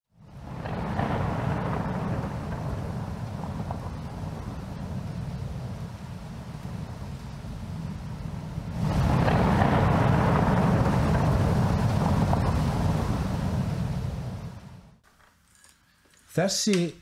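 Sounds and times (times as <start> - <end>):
deep rumbling noise: 0.2 - 15.0.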